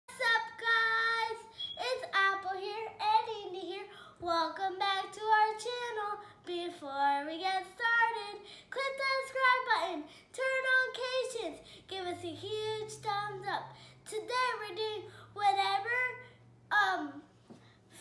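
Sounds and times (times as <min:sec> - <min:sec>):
girl singing: 0:00.1 - 0:18.0.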